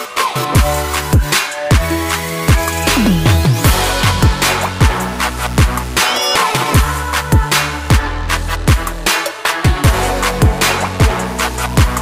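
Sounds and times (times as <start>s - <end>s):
electronic backing music: 0.0s - 12.0s.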